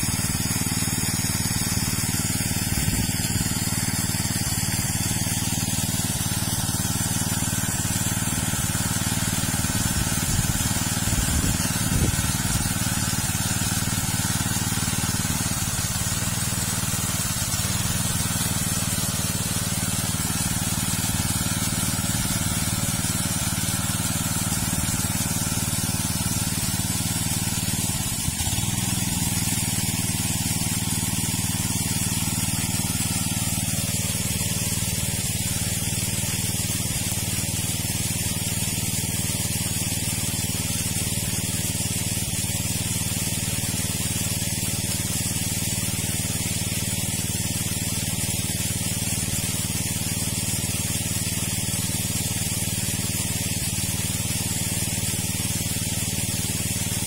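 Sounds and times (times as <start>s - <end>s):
water jet spraying: 0.0s - 57.0s
water pump engine running: 0.0s - 57.0s.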